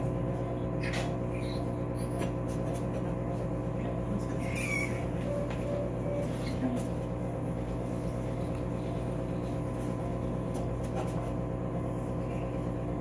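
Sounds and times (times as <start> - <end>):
equipment humming: 0.0 - 13.0.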